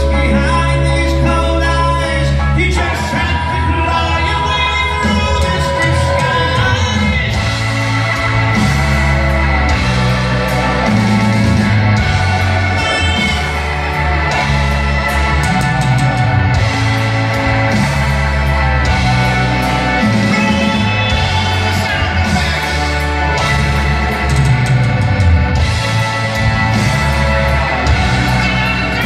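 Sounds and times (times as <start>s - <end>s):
live rock band: 0.0s - 29.0s.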